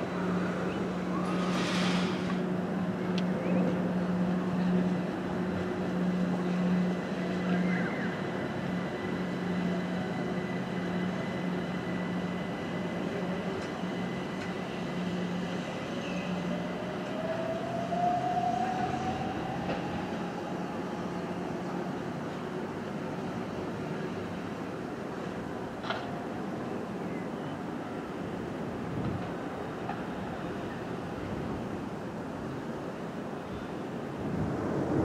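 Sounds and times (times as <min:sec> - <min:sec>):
electric train humming: 0:02.2 - 0:33.4.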